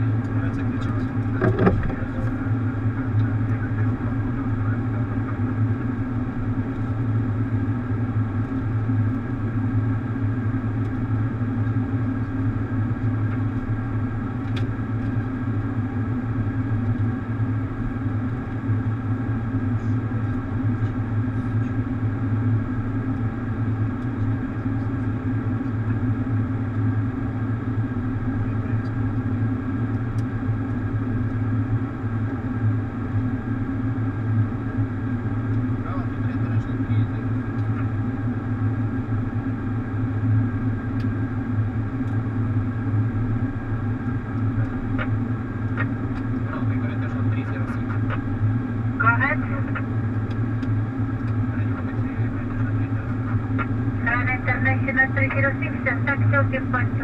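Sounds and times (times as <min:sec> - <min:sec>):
airliner cockpit engine and airflow hum: 0:00.0 - 0:57.0.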